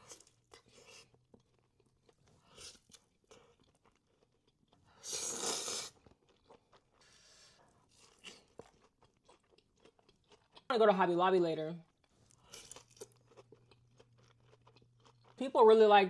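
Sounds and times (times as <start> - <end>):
chewing: 0.0 - 5.0, 5.9 - 10.7, 11.8 - 15.4.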